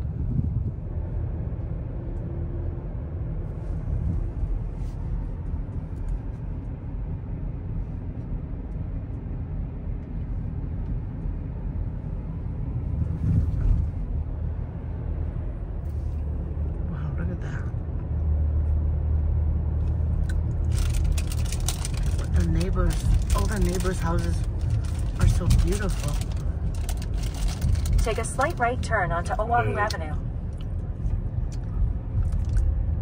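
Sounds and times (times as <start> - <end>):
car interior engine and tyre noise: 0.0 - 33.0.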